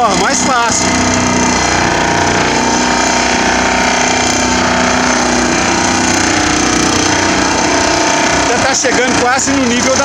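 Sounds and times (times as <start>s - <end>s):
vibratory pile hammer droning: 0.0s - 10.0s.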